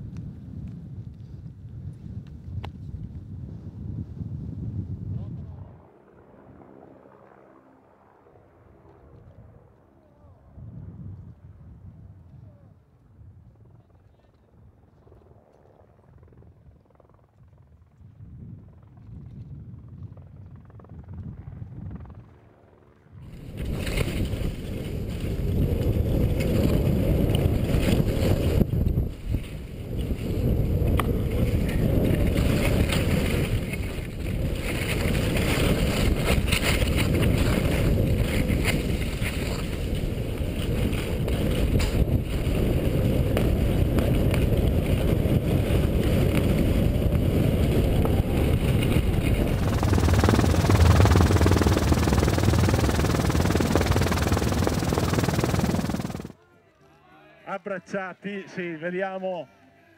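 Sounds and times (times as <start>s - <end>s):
wind buffeting microphone: 0.0s - 6.0s, 10.5s - 13.9s, 16.1s - 22.5s, 23.2s - 56.4s.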